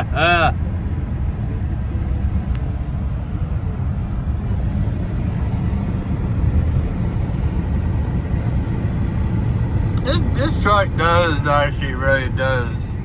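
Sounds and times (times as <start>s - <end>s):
pickup truck engine and road rumble: 0.0s - 13.0s.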